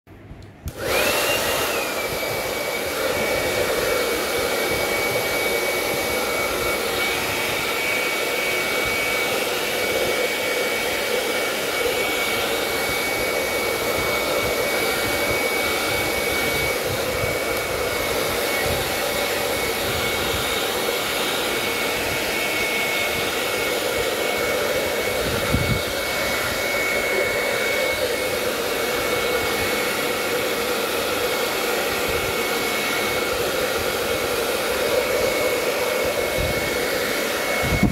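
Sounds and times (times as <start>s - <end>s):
hair dryer running: 0.2s - 37.9s.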